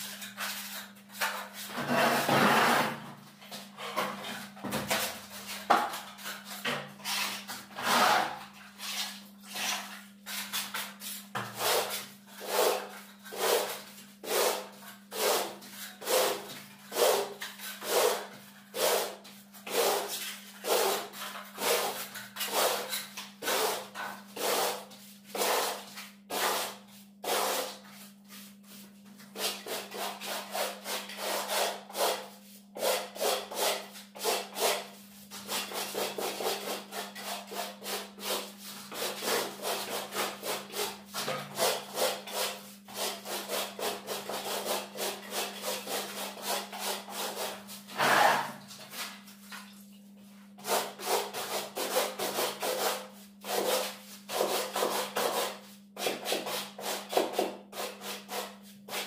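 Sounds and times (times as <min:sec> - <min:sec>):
plastering float rasping on plaster: 0:00.0 - 0:49.7, 0:50.6 - 0:59.0.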